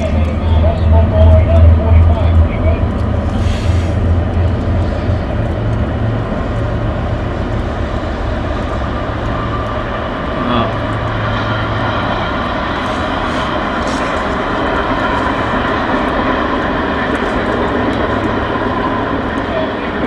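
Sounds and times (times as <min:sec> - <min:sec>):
diesel train running by: 0:00.0 - 0:20.0.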